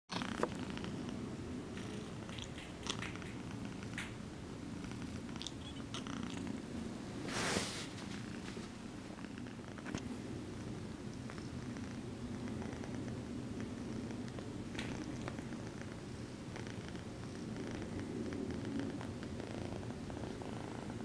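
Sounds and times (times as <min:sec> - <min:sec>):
kitten purring: 0:00.1 - 0:21.0.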